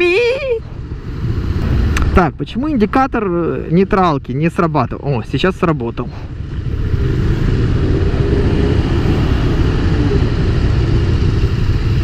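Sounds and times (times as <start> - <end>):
motorcycle engine idling: 0.0 - 12.0
road and wind noise: 0.0 - 12.0.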